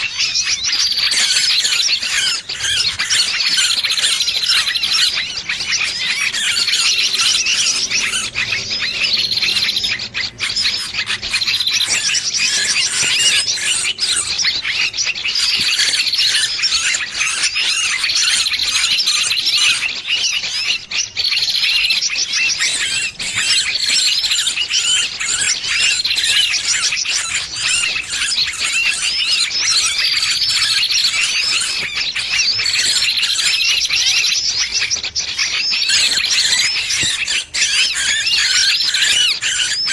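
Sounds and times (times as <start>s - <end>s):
small bird distress calls: 0.0s - 39.9s.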